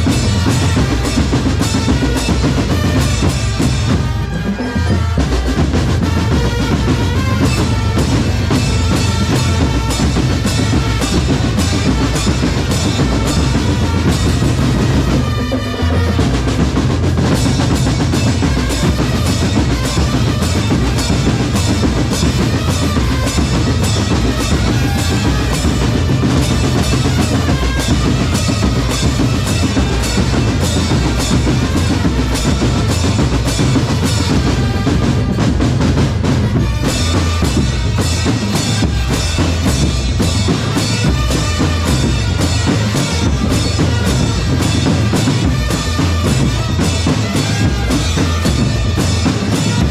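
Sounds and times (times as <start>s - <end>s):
drum corps playing: 0.0s - 49.9s.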